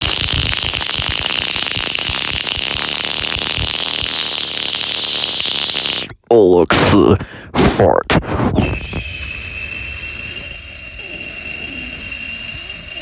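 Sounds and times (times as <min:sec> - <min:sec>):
static hiss: 0:00.0 - 0:06.2, 0:08.6 - 0:13.0
crackling pops: 0:00.0 - 0:13.0.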